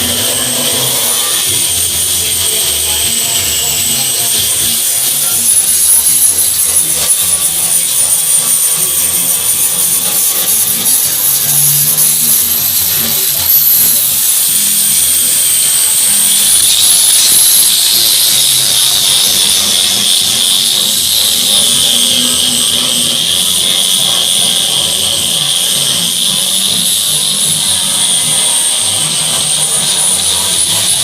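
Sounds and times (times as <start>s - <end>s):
power tool motor whine: 0.0s - 31.0s.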